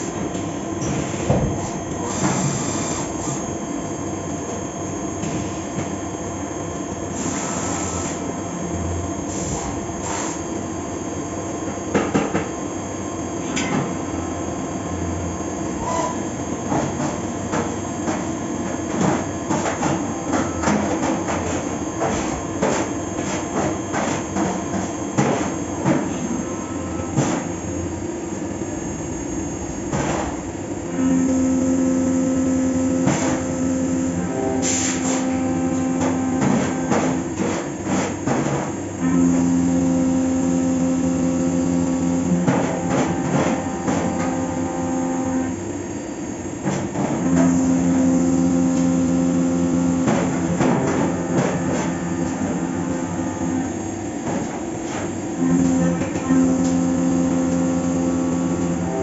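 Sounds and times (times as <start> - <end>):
loud steady tone: 0.0 - 59.0
milling machine whine: 0.0 - 59.0.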